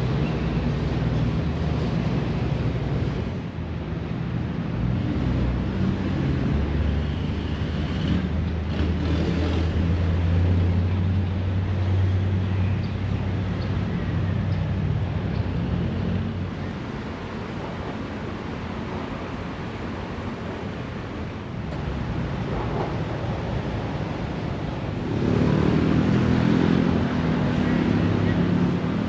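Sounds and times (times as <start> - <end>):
road and wind noise: 0.0 - 29.0
vehicle engine rumble: 0.0 - 29.0.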